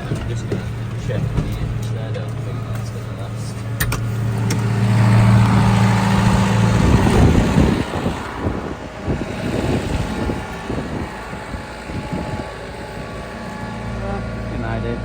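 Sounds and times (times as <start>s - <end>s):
tractor engine running: 0.0s - 15.0s
wind rumble on microphone: 0.0s - 15.0s.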